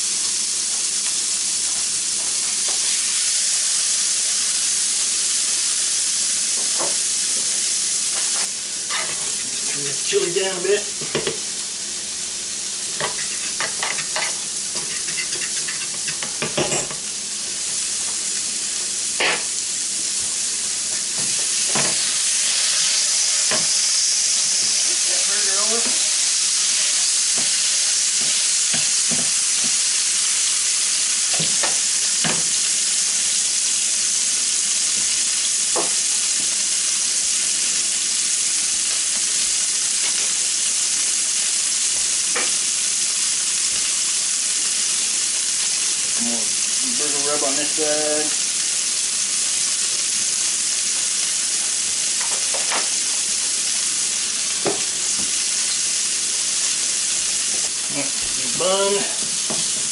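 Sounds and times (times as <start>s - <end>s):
burger patty sizzling: 0.0s - 59.9s.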